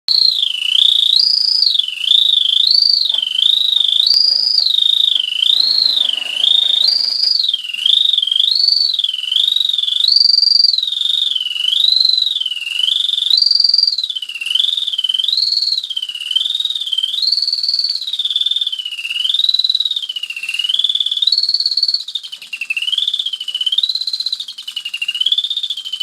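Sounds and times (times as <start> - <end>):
toy bird whistling warbling tune: 0.1 - 26.0.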